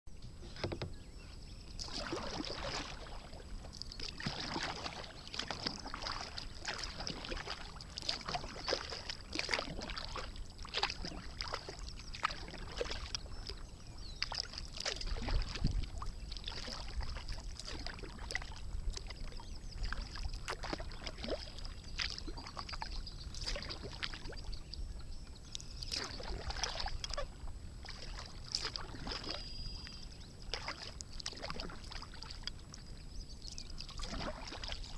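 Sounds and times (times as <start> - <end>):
paddle splashes and drips: 0.1 - 34.9.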